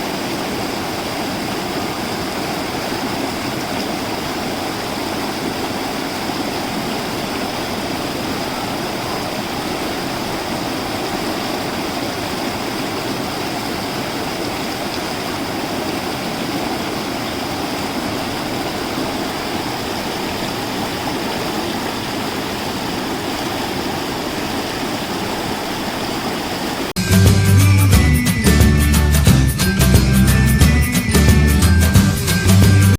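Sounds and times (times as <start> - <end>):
rushing water: 0.0 - 32.9.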